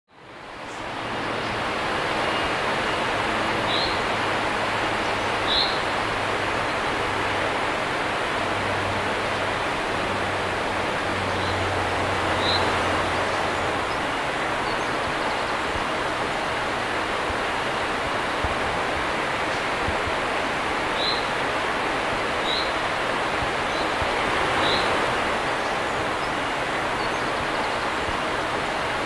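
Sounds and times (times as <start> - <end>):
river water rushing over weir: 0.2 - 29.0.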